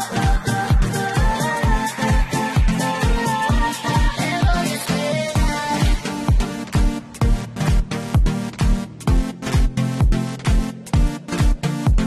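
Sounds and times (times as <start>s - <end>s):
kick drum: 0.0s - 4.6s, 5.4s - 12.0s.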